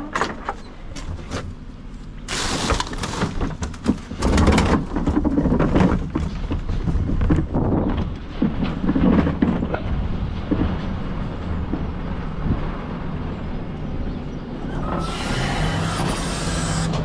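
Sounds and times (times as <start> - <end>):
garbage truck rumbling and rattling: 0.0 - 17.0.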